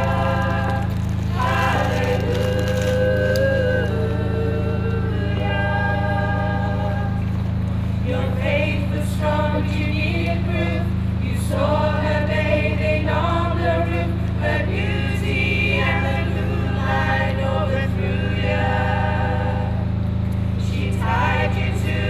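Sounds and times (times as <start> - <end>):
mixed choir singing unaccompanied: 0.0 - 22.0
steady low hum: 0.0 - 22.0.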